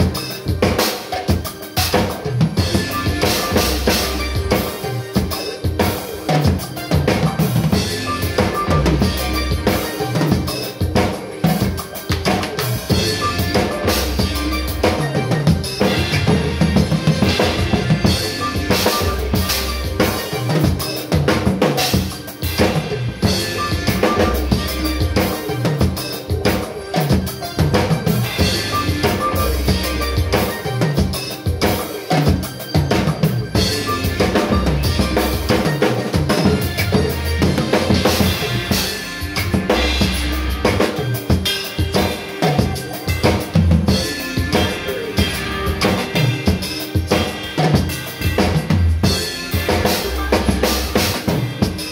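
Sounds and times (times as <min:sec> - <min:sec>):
drum kit played with sticks: 0:00.0 - 0:51.9
recorded song with bass line: 0:00.0 - 0:51.9.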